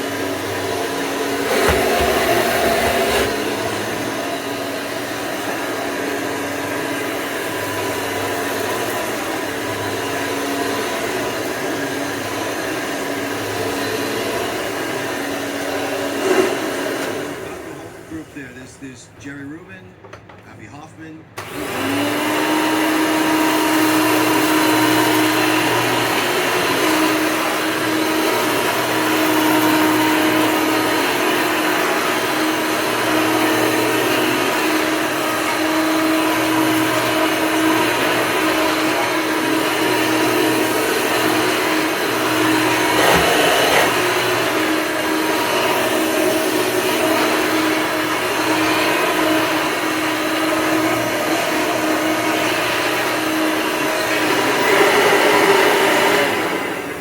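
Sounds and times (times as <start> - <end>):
vacuum cleaner running: 0.0 - 18.6, 21.3 - 57.0.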